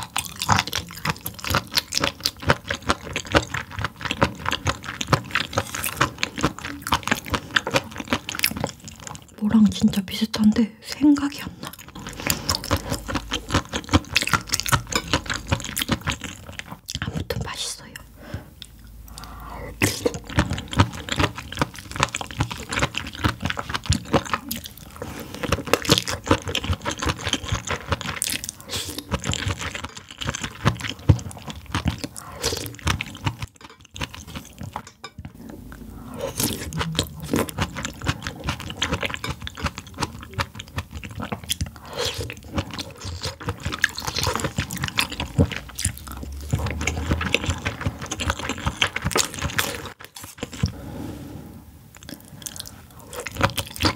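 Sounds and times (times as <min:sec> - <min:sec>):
chewing and biting food: 0:00.0 - 0:09.4, 0:11.2 - 0:17.3, 0:18.6 - 0:50.8, 0:52.0 - 0:53.9.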